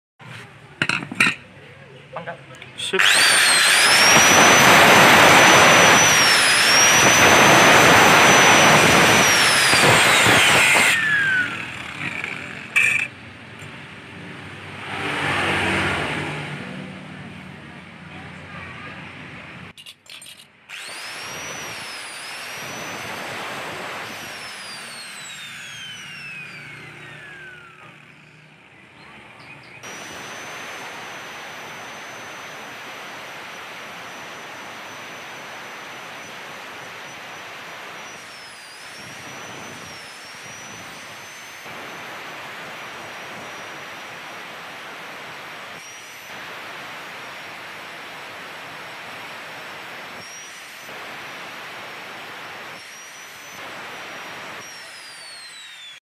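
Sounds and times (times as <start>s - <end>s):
angle grinder whining: 2.2s - 13.2s, 20.7s - 28.9s, 29.8s - 56.0s.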